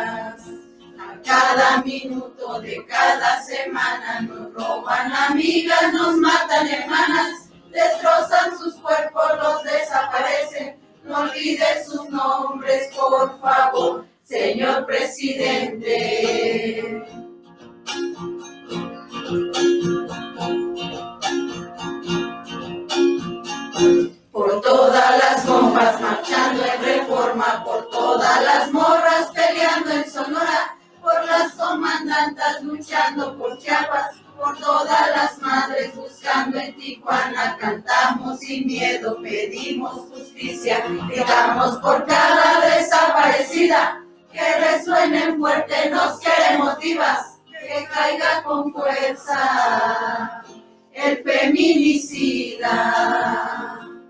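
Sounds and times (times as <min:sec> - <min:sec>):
acoustic guitar strumming chords: 0:00.0 - 0:14.8, 0:15.4 - 0:54.0
voices singing: 0:00.0 - 0:17.1, 0:24.4 - 0:54.0.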